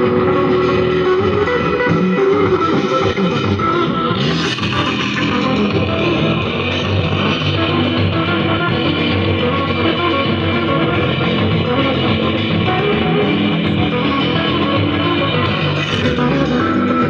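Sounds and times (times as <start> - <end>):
rock song through a speaker: 0.0 - 17.0.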